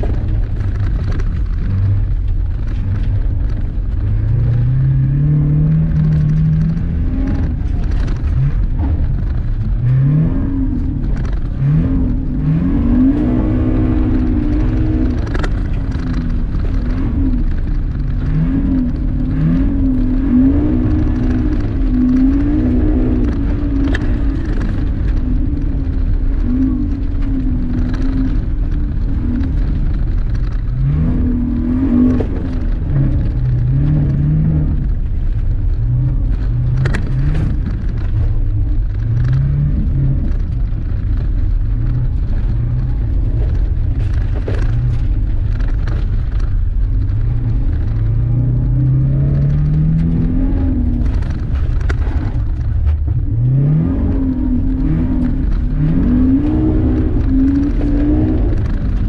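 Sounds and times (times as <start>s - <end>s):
car engine revving: 0.0s - 59.0s
gravel ticking against car: 0.0s - 59.0s.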